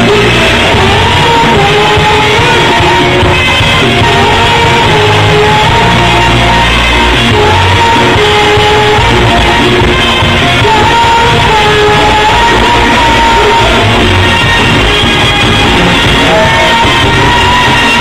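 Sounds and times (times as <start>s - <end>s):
horn section: 0.0s - 18.0s
live band with singing: 0.0s - 18.0s.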